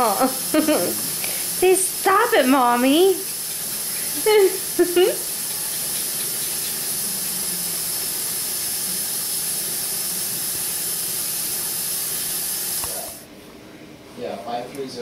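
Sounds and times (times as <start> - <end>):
steady hiss: 0.0 - 13.3.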